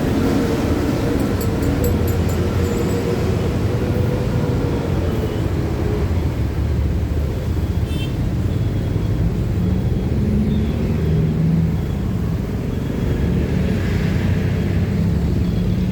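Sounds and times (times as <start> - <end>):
passing vehicles rumbling: 0.0 - 15.9.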